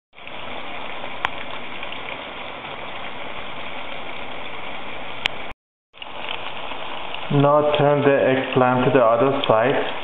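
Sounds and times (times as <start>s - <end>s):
oil popping: 0.1s - 10.0s
eggplant sizzling in hot oil: 0.2s - 10.0s.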